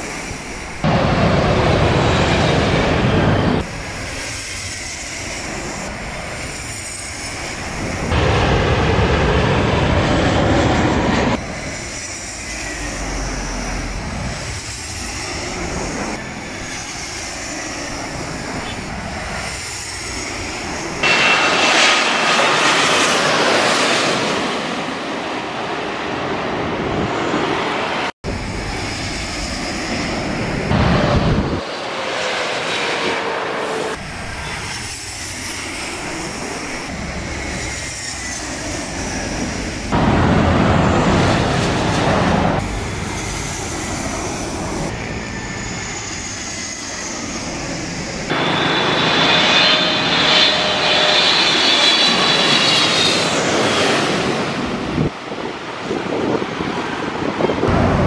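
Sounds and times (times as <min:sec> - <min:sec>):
jet airliners passing overhead: 0:00.0 - 0:58.0.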